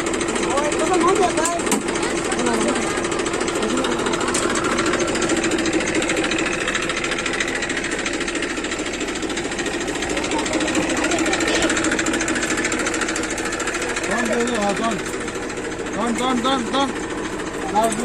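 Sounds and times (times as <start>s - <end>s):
tractor engine clattering: 0.0s - 18.0s.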